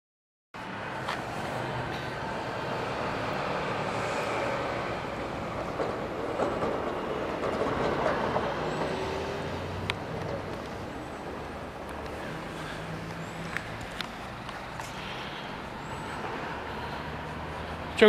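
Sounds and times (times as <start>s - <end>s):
vehicle rumble: 0.6s - 18.0s.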